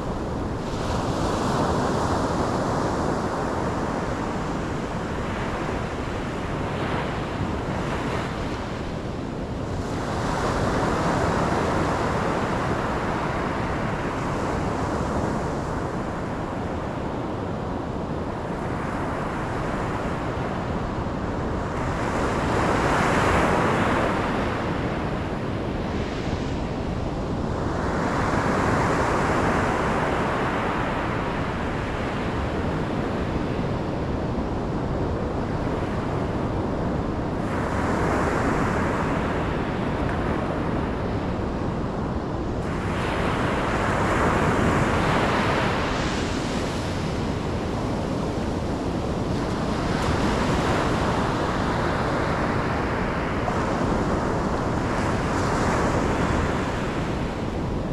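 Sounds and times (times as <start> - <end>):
ocean waves on shore: 0.0 - 57.9.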